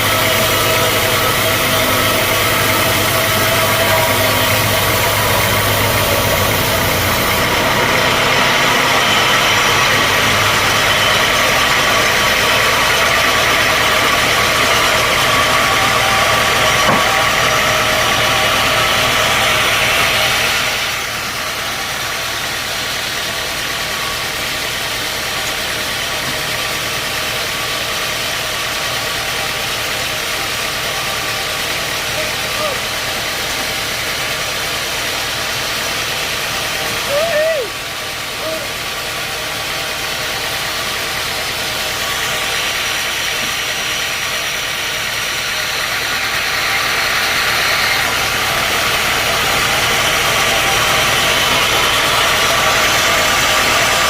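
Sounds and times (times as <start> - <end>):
sawmill machinery whine and hum: 0.0 - 54.0.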